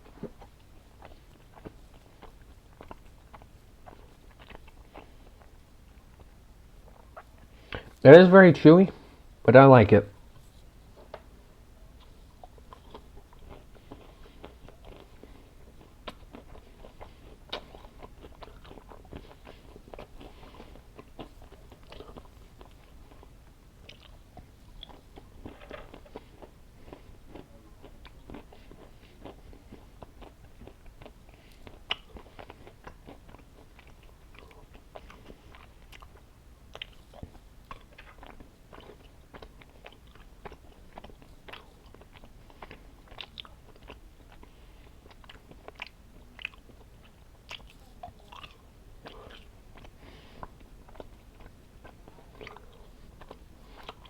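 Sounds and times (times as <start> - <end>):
person chewing gummy candy: 0.0 - 8.0, 12.0 - 54.0.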